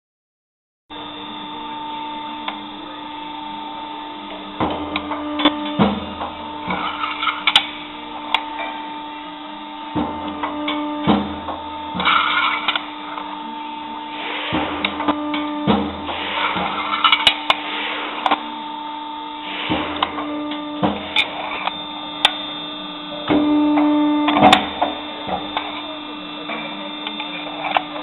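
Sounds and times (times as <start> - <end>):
machine motor humming: 0.9 - 28.0.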